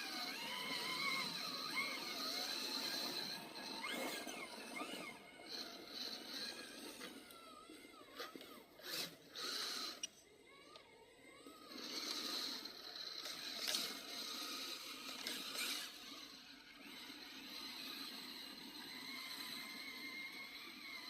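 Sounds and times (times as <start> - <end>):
toy truck motor whining: 0.0 - 21.0.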